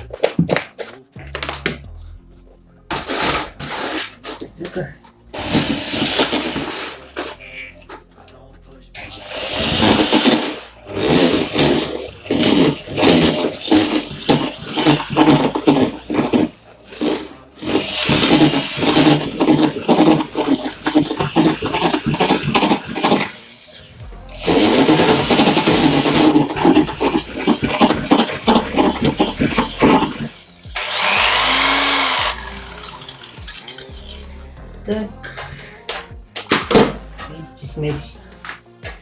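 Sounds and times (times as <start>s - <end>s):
electric drill mixing mortar: 2.9s - 7.9s, 9.0s - 39.0s
paddle knocking and scraping bucket: 2.9s - 8.1s, 9.1s - 34.2s, 35.4s - 39.0s.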